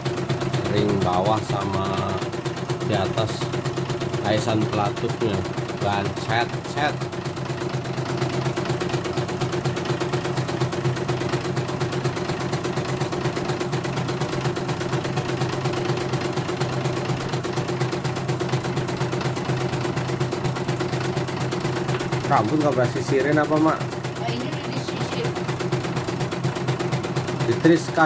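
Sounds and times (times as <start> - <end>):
embroidery machine stitching: 0.0 - 28.0.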